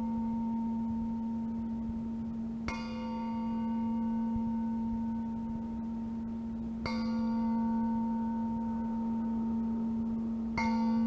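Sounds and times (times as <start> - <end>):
low drone noise music: 0.0 - 11.0
struck metallic bell-like tones: 0.0 - 11.0
tape hiss: 0.0 - 11.0.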